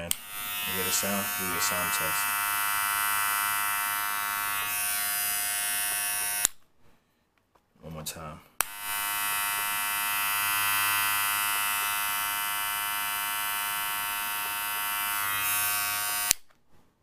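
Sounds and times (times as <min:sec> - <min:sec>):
hair clipper buzzing: 0:00.0 - 0:06.6, 0:08.6 - 0:16.4.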